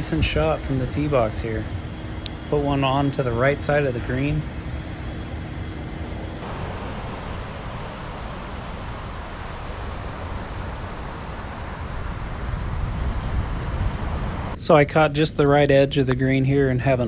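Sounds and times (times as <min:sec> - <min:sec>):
ocean surf breaking: 0:00.0 - 0:14.8
wind buffeting microphone: 0:00.0 - 0:17.0.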